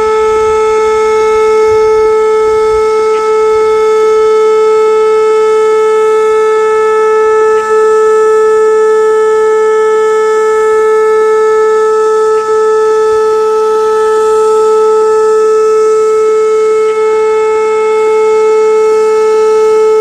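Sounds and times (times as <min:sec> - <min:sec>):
warning siren steady tone: 0:00.0 - 0:20.0.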